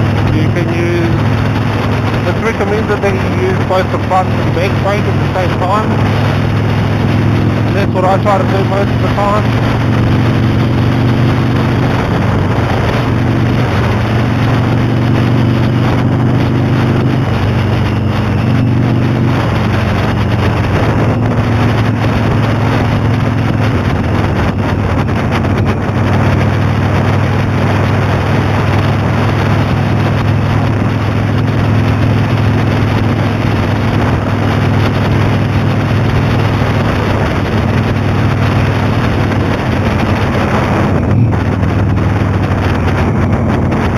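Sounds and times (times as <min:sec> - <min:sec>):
motorcycle engine running: 0:00.0 - 0:43.9
wind noise on microphone: 0:00.0 - 0:43.9.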